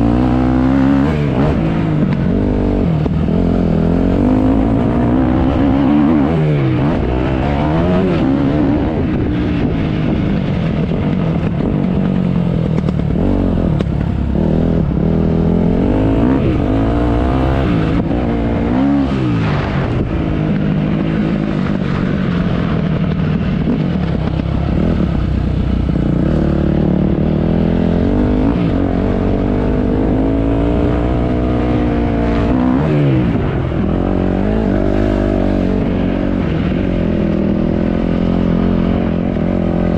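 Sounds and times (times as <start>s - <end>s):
dirt bike engine revving: 0.0s - 9.7s, 12.7s - 19.8s, 23.7s - 39.9s.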